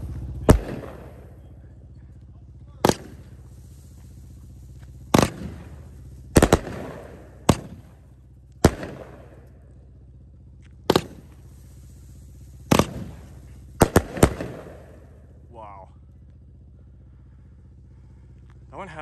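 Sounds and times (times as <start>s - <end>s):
firework cake reports: 0.0s - 10.0s, 10.8s - 19.0s.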